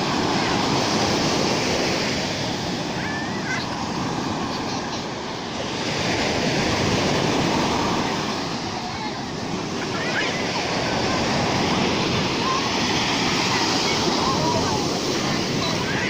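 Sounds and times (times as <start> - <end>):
surf breaking on shore: 0.0 - 16.0.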